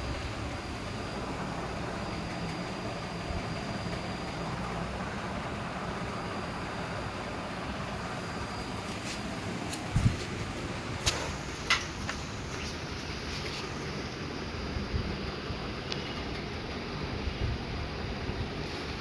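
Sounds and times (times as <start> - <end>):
low mechanical hum: 0.0 - 19.0
thin high whine: 0.0 - 19.0.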